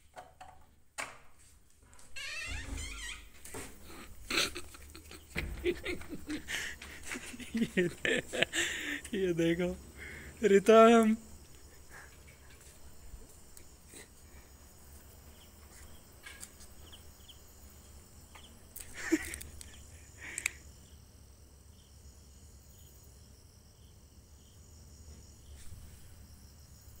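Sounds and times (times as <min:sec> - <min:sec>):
night insect chirping: 0:02.1 - 0:27.0.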